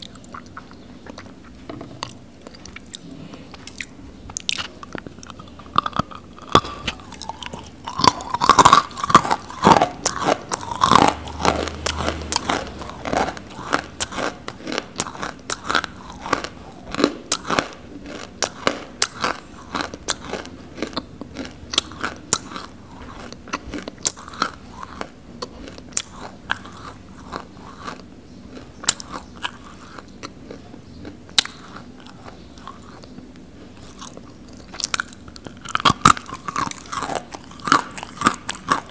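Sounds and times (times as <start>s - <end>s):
clay being bitten and chewed: 0.0s - 38.9s.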